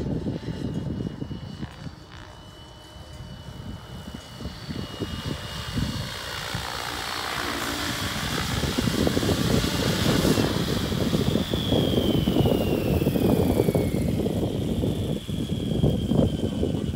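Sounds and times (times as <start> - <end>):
rc helicopter rotor whining: 0.0 - 16.9
wind buffeting microphone: 0.0 - 16.9.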